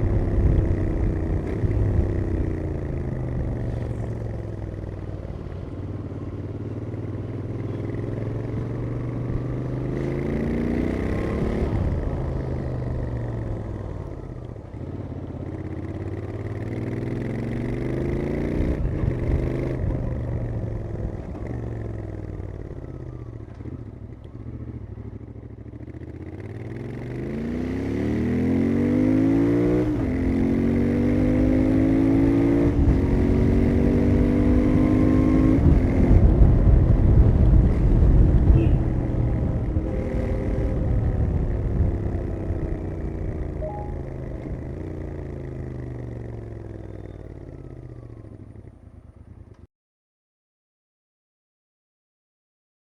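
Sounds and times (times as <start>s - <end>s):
motorcycle engine accelerating: 0.0s - 49.7s.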